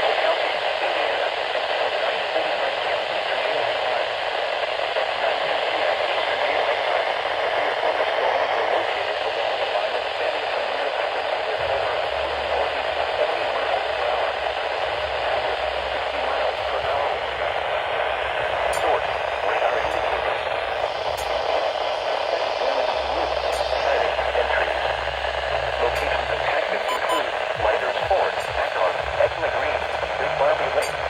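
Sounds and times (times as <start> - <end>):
radio static hiss: 0.0 - 31.0
faint low hum: 5.0 - 31.0.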